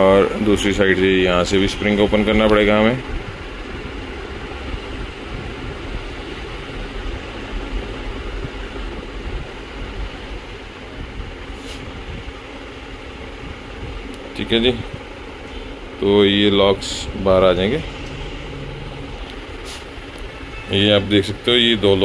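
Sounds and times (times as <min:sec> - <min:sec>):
low rumble and hiss: 0:00.0 - 0:22.0.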